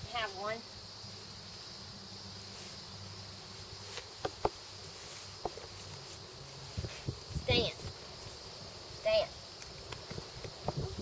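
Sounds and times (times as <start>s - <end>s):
crickets and insects trilling: 0.0s - 11.0s.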